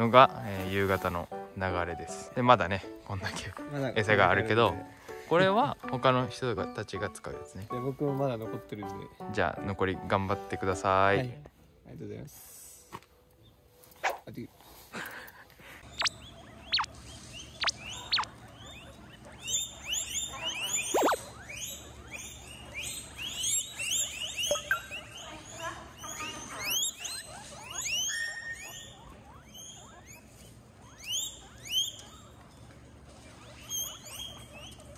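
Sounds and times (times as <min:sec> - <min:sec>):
guinea pig squeaking: 0:00.0 - 0:11.2, 0:15.8 - 0:34.9.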